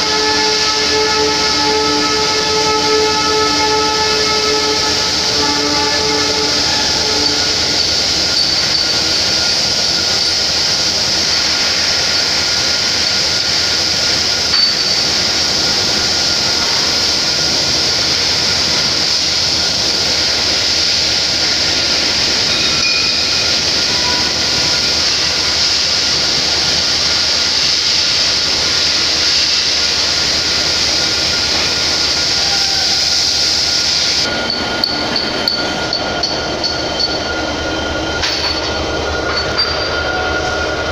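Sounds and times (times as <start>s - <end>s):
high-pitched industrial hiss: 0.0s - 40.9s.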